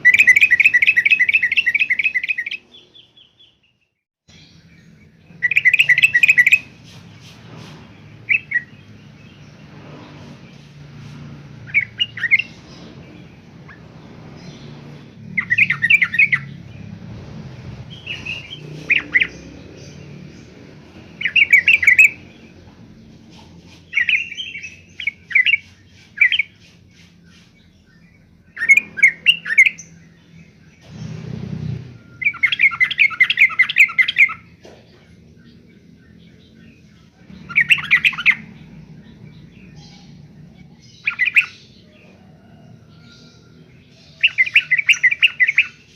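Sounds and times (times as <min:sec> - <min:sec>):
bulbul chirping song: 0:00.0 - 0:09.6, 0:11.5 - 0:16.9, 0:17.6 - 0:31.0, 0:32.0 - 0:45.9.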